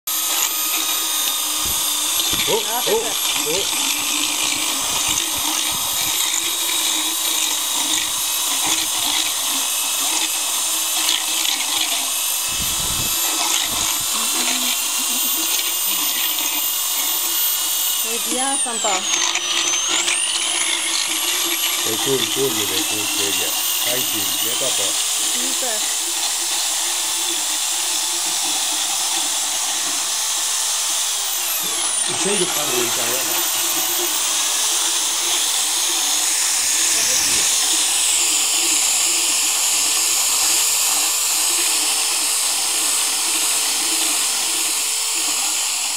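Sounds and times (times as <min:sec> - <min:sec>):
dental float whining: 0:00.1 - 0:45.9
rotating head grinding teeth: 0:00.1 - 0:45.9.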